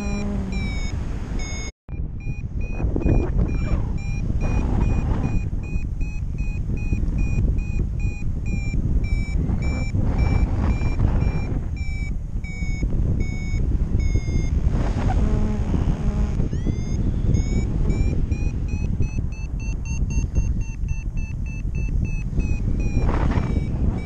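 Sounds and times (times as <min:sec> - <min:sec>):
variometer beeping: 0:00.0 - 0:24.0
wind rushing on microphone: 0:00.0 - 0:24.0.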